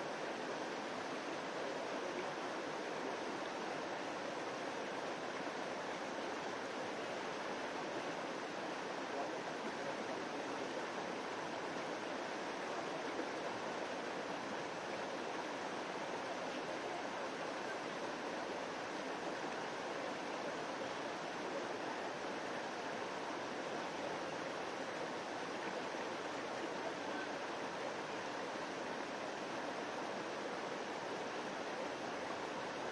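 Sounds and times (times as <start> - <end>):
stream running over rocks: 0.0 - 32.9.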